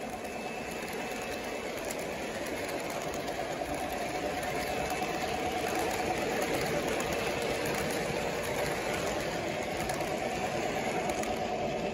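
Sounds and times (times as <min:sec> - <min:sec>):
model train wheels rumbling: 0:00.0 - 0:11.9.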